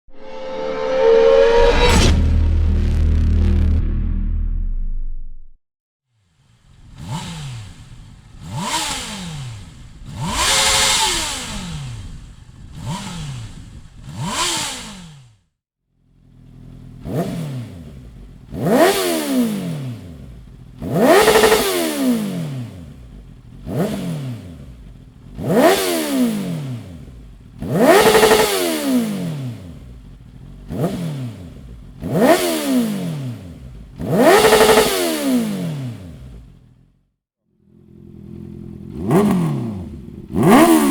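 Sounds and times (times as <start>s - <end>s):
motorcycle engine revving: 6.2s - 40.9s.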